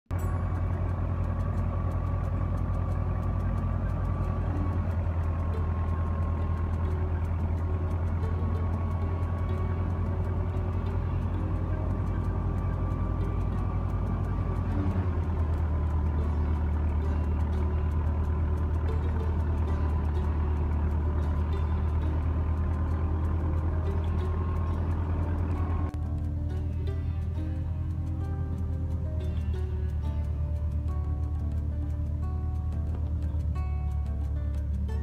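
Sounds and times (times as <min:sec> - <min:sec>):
tractor diesel engine: 0:00.0 - 0:35.0
wheat thresher drone: 0:00.1 - 0:35.0.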